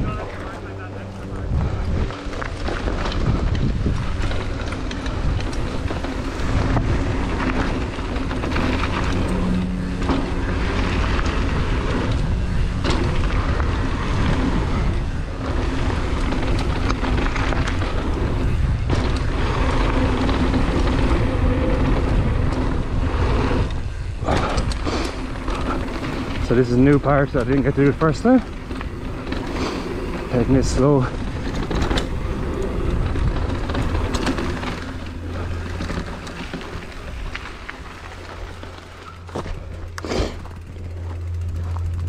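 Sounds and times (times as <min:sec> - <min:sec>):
bike clattering over bumps: 0:00.0 - 0:42.0
tyres on loose gravel: 0:00.0 - 0:42.0
wind buffeting microphone: 0:00.0 - 0:42.0.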